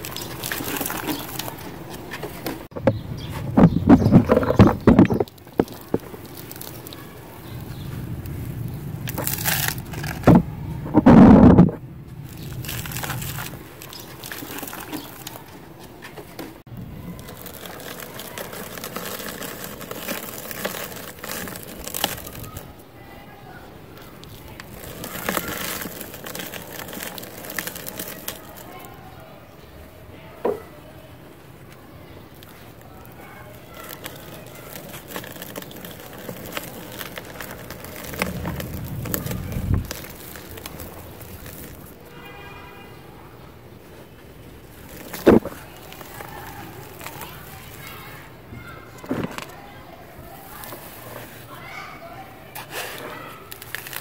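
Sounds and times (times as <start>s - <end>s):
powder sifting through fingers: 0.0s - 11.0s, 12.1s - 29.2s, 32.2s - 42.1s, 43.9s - 54.0s
cement crumbling in hands: 0.0s - 29.2s, 31.6s - 42.7s, 43.8s - 54.0s.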